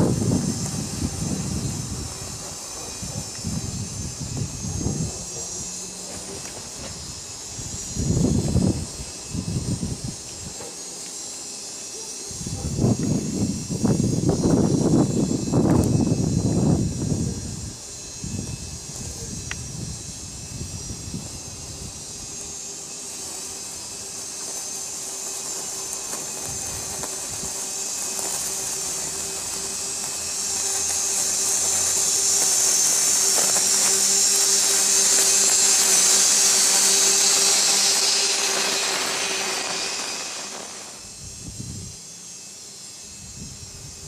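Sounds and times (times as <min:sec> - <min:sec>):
machine whining and hissing: 0:00.0 - 0:44.0.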